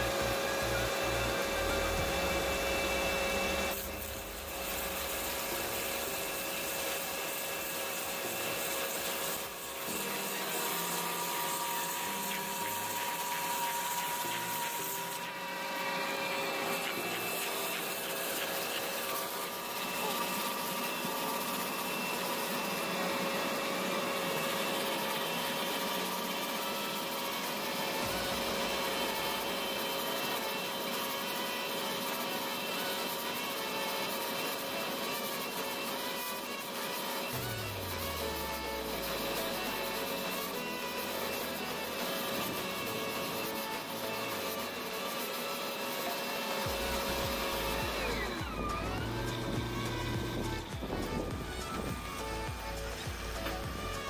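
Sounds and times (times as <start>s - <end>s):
steady machine whine: 0.0s - 54.0s
stump auger grinding wood: 0.0s - 54.0s.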